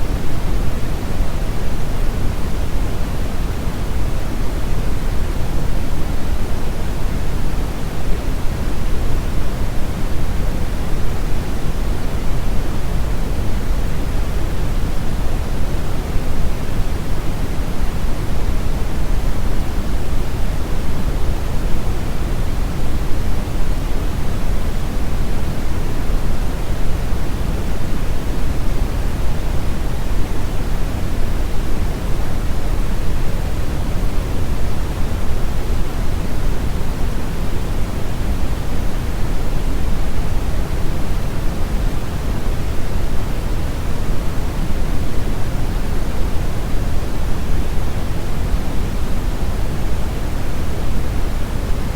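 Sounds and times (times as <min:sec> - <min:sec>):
pink noise hiss: 0:00.0 - 0:51.9.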